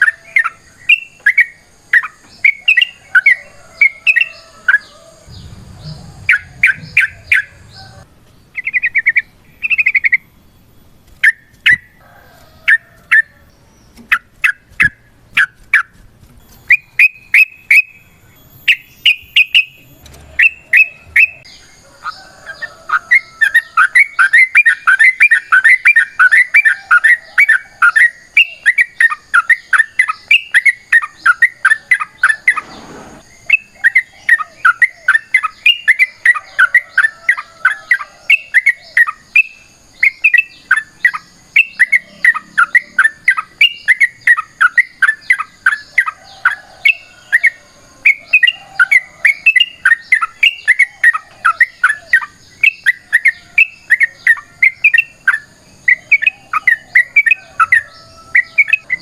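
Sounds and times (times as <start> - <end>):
bird singing and chattering: 0.0 - 12.0, 12.7 - 59.0.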